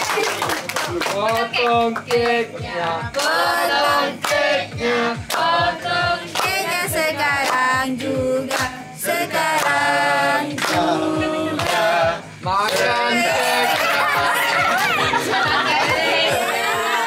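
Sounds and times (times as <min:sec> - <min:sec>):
hands clapping steady beat: 0:00.0 - 0:15.7
group singing unaccompanied: 0:01.5 - 0:17.0.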